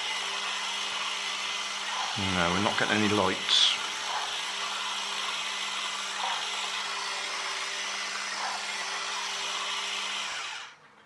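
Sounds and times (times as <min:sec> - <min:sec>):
small electric motor whirring: 0:00.0 - 0:10.8.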